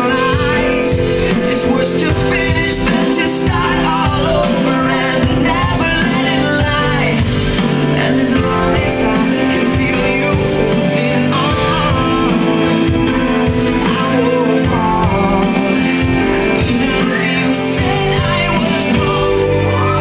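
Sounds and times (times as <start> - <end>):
pop song with singer: 0.0 - 20.0.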